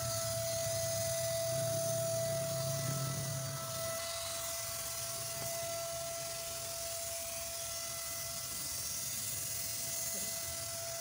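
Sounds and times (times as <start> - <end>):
thin whistle in air flow: 0.0 - 11.0.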